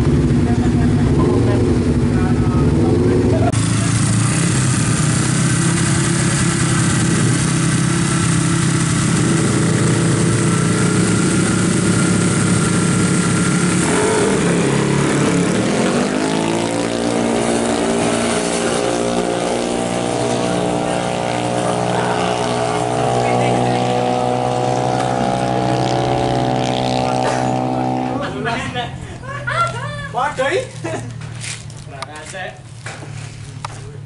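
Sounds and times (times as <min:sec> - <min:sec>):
motorcycle engines accelerating: 0:00.0 - 0:34.0.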